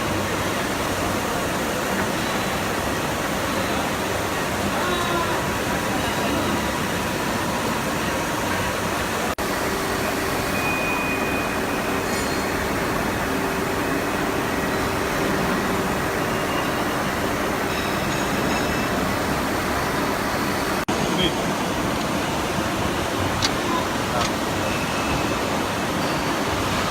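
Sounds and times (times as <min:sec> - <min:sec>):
industrial machinery humming: 0:00.0 - 0:26.9.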